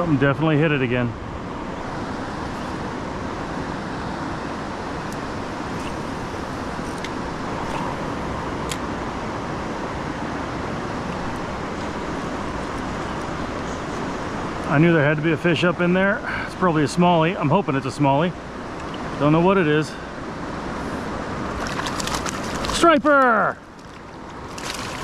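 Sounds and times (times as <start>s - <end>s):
river water rushing over rocks: 1.2s - 15.4s, 17.6s - 25.0s.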